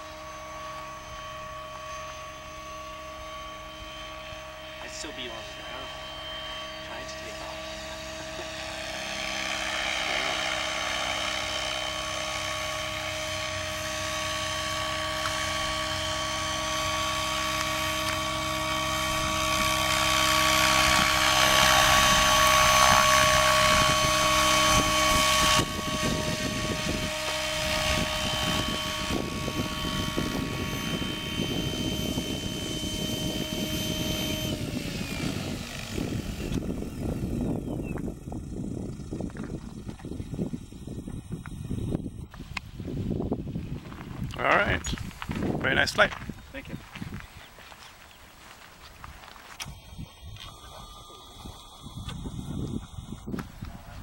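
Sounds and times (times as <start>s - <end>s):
model helicopter motor whine: 0.0s - 54.0s
rotor blades rushing: 0.0s - 54.0s.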